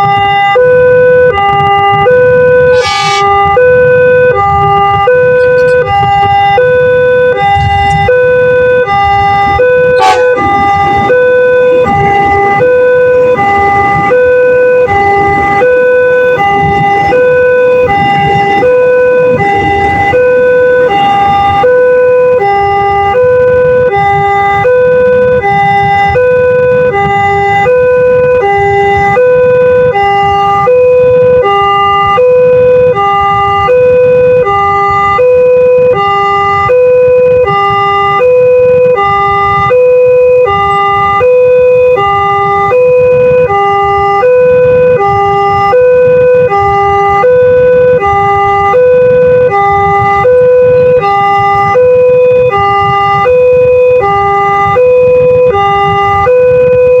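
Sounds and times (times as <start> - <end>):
level crossing two-tone siren: 0.0 - 57.0.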